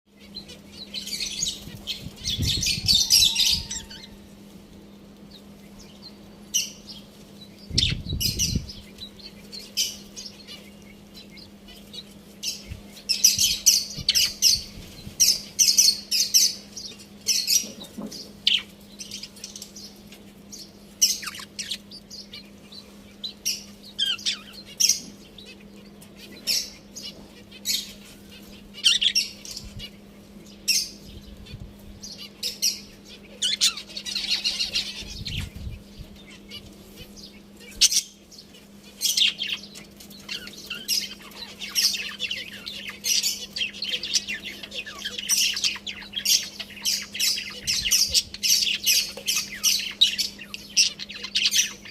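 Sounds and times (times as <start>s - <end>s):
budgerigars chirping: 0.1s - 4.3s, 5.3s - 20.0s, 20.6s - 51.9s
faint steady hum: 0.1s - 51.9s.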